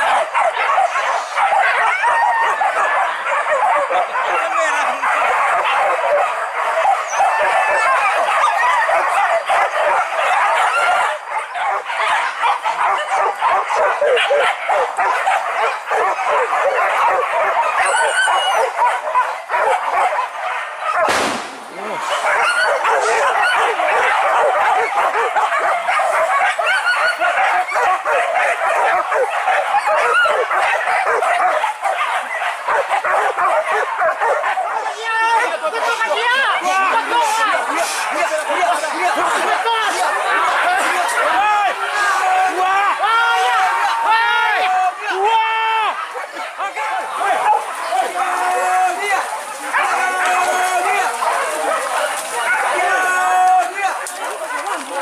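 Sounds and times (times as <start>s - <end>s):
dogs barking and yelping: 0.0s - 55.0s.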